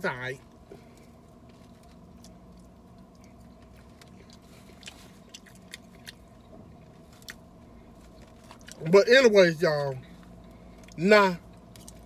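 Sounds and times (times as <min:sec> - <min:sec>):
steady low hum: 0:00.0 - 0:12.0
chewing salad crunching: 0:00.4 - 0:12.0.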